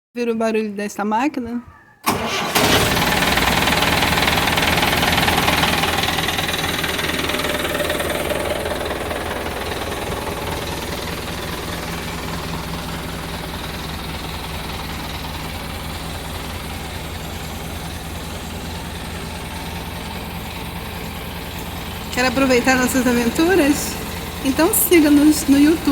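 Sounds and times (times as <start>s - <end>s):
engine idling: 2.1s - 25.9s.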